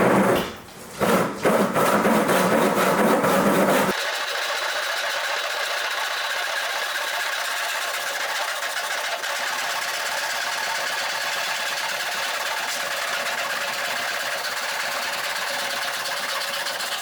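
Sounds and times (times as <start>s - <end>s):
handsaw cutting wood: 0.0s - 17.0s.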